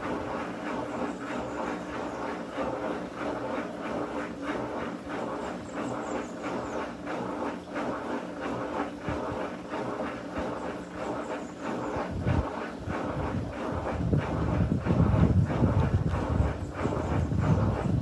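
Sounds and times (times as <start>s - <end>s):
washing machine motor hum: 0.0s - 18.0s
water churning: 0.0s - 18.0s.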